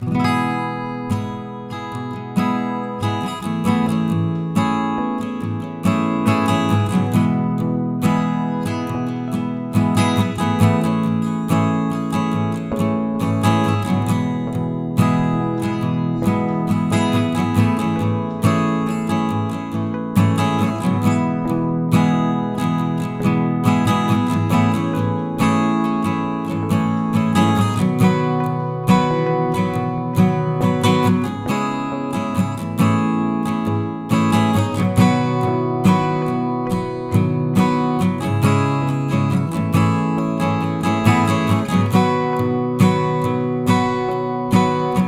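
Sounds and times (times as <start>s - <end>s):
acoustic guitar strumming and plucking: 0.0s - 45.0s.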